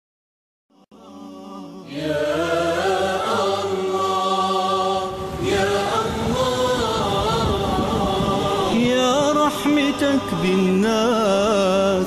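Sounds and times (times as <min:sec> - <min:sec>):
chanted singing: 0:00.9 - 0:12.0
low drone: 0:01.0 - 0:11.6.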